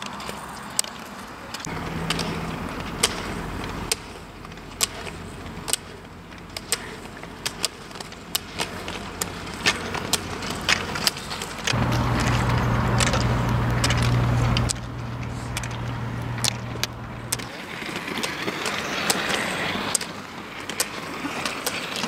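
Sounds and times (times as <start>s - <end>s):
roller skis rolling on asphalt: 0.0s - 22.0s
ski pole tips clicking on pavement: 0.0s - 22.0s.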